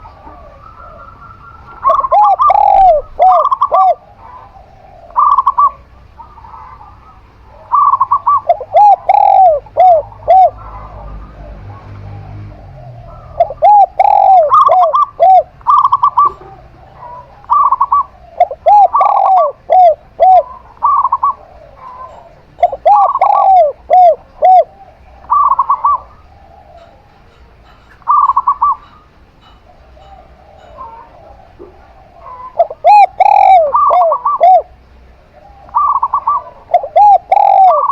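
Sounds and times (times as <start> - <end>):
doves cooing: 0.0 - 37.9.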